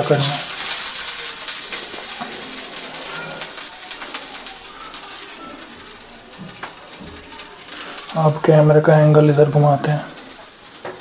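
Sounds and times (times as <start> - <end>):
onions sizzling in pan: 0.0 - 11.0.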